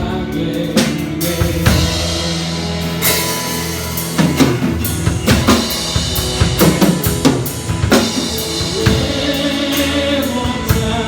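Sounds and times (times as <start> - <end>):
band playing chord over bass: 0.0 - 11.0
drum kit beat: 0.0 - 11.0.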